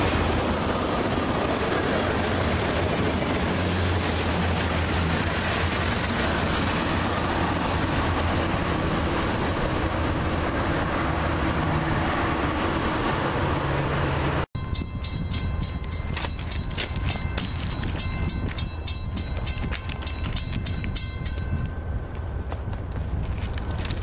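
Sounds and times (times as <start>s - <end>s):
steel wheels rolling on rail: 0.0s - 24.0s.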